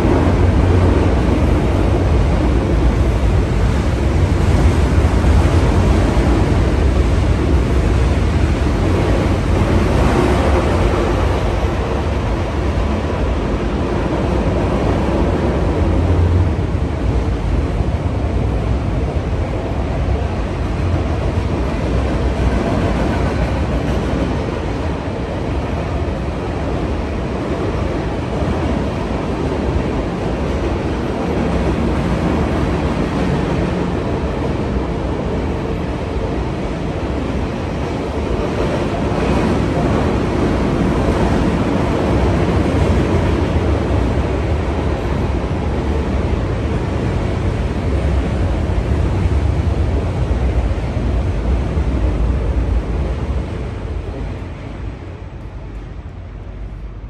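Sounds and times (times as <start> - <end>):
train rumbling past: 0.0 - 57.0
wind noise on microphone: 0.0 - 57.0.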